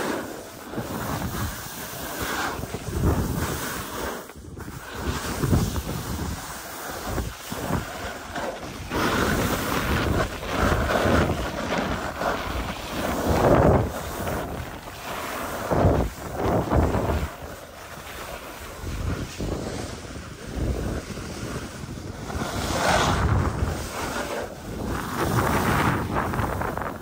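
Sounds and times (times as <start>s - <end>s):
skis scraping over snow: 0.0s - 27.0s
wind buffeting microphone: 0.6s - 27.0s.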